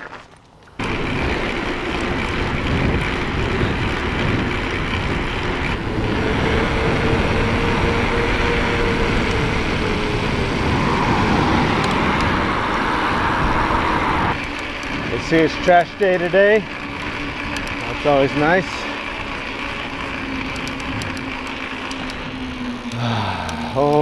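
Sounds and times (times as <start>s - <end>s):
wind buffeting microphone: 0.8s - 22.8s.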